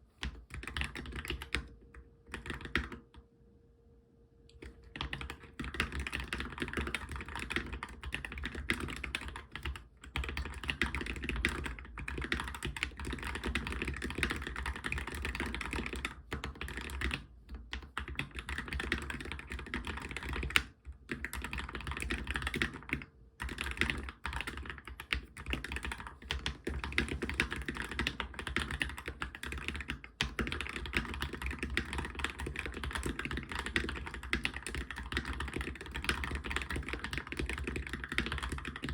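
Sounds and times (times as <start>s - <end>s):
fast typing on mechanical keyboard: 0.2s - 1.7s, 2.3s - 3.1s, 4.6s - 38.9s.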